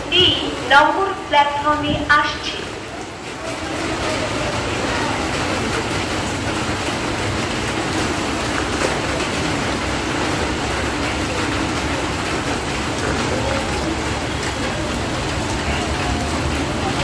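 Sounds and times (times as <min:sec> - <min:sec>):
rain falling on platform: 0:00.0 - 0:17.0
train rumbling: 0:00.0 - 0:17.0.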